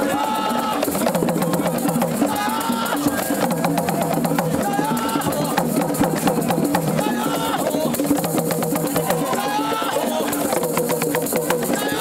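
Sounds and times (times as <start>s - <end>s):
music with busy percussion beat: 0.0s - 12.0s.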